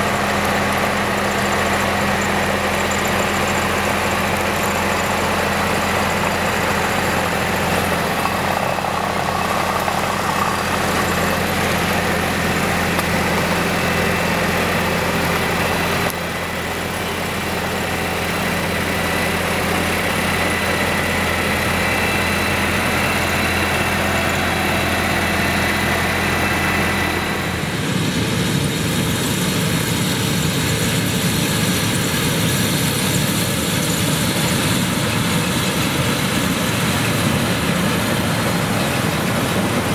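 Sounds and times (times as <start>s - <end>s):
combine harvester threshing: 0.0s - 39.9s
tractor diesel engine: 0.0s - 39.9s.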